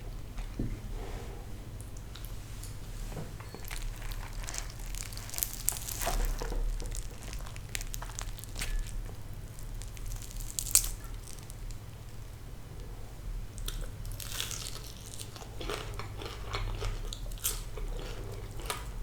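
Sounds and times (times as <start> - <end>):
low steady hum: 0.0 - 19.0
crunchy chewing of fried fish: 2.1 - 19.0.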